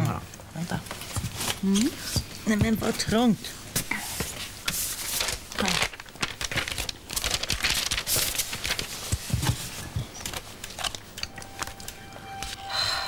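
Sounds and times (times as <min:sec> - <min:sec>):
paper rustling and crinkling: 0:00.6 - 0:12.8.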